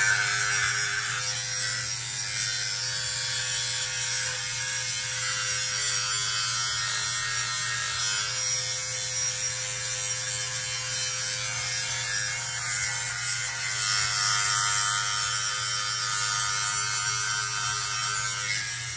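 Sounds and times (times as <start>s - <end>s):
electric hair clippers buzzing: 0.0s - 18.9s.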